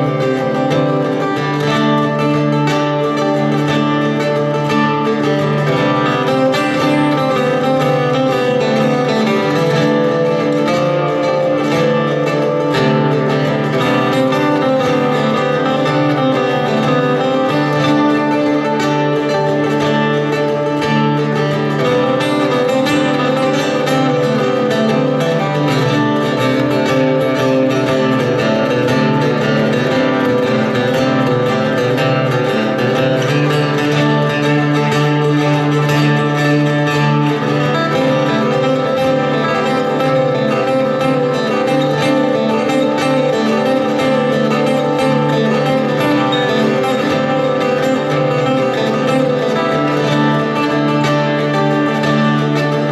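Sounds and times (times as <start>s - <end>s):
acoustic guitar playing: 0.0s - 52.9s.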